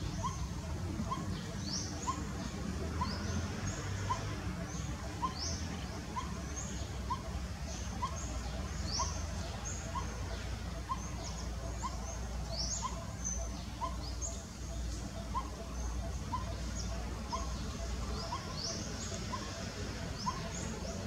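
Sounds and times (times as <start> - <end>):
bird calls with falling notes: 0.0 - 21.0.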